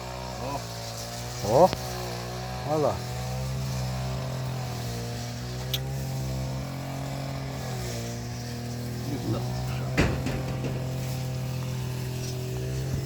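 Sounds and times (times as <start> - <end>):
brush cutter engine running: 0.0 - 13.0.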